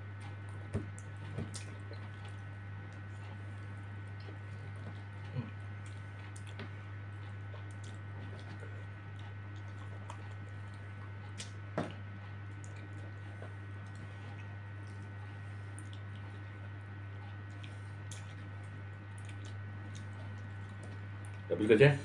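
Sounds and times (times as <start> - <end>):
steady low hum: 0.0 - 22.0
chewing with wet squishes: 0.1 - 21.6.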